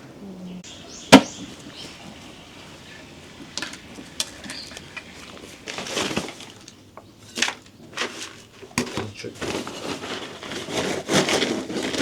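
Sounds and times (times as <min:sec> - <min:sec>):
scraping rustling: 0:00.8 - 0:12.0.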